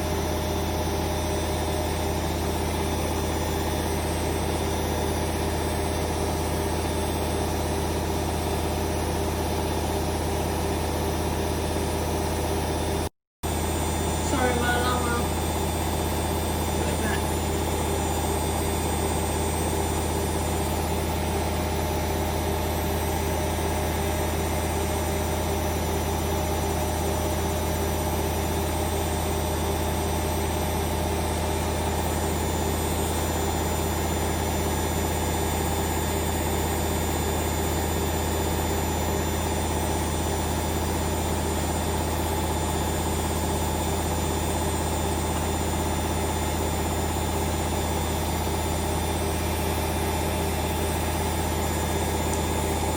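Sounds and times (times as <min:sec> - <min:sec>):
washing machine spinning: 0:00.0 - 0:52.9.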